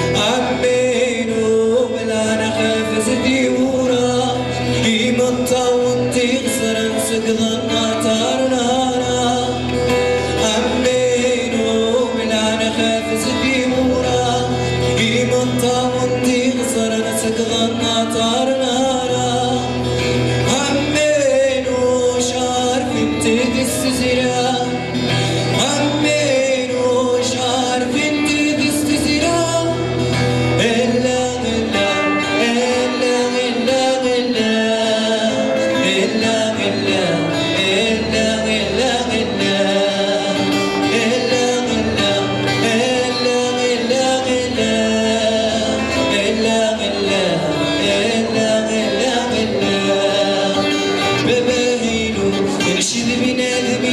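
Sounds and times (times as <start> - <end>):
acoustic guitar strumming: 0.0 - 53.9
man singing: 0.0 - 53.9.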